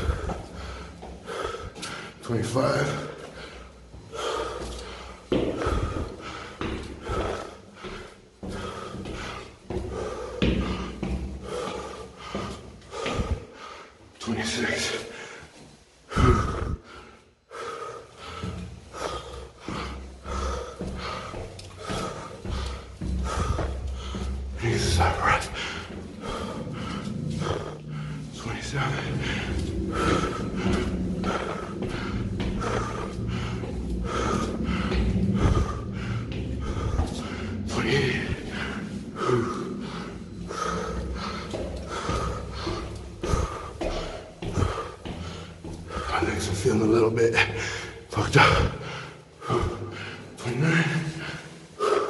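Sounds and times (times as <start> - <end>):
man breathing hard: 0.0 - 46.8, 47.4 - 52.0
footfalls on stairs: 0.0 - 52.0.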